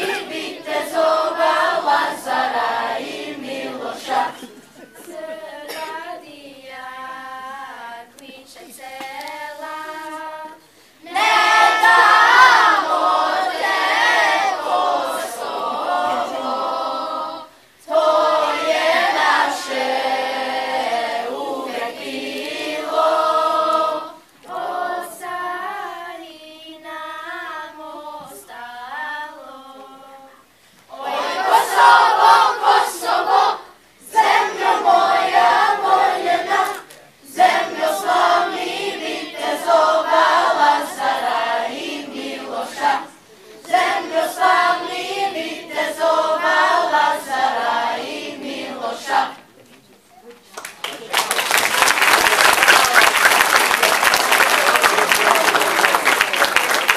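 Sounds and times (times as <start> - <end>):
children's choir singing: 0.0 - 49.5.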